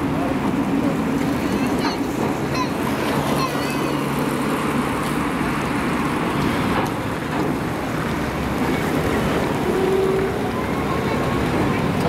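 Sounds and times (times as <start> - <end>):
street traffic: 0.0 - 12.0
train wheels rumbling on rails: 0.0 - 12.0.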